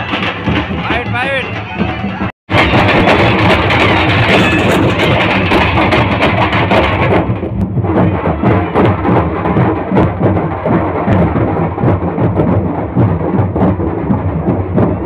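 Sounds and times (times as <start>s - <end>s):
barrel drums beating: 0.0s - 15.0s.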